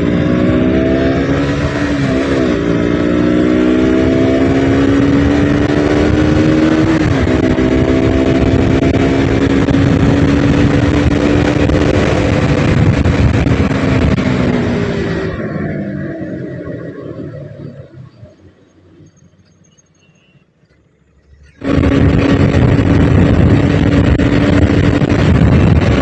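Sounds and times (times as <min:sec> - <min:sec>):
wind rushing over microphone: 0:00.0 - 0:17.9, 0:21.6 - 0:26.0
motorcycle engine accelerating: 0:00.0 - 0:18.6, 0:20.6 - 0:26.0.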